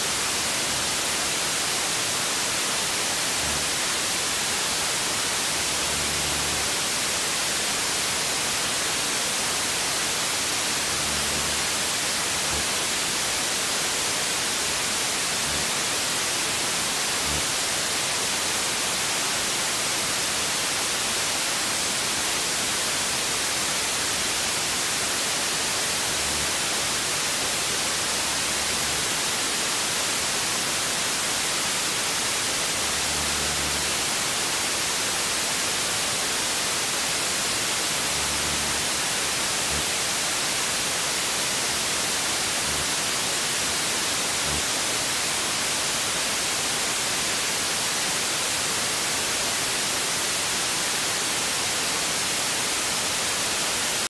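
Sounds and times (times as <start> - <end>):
tv static hiss: 0.0 - 54.0.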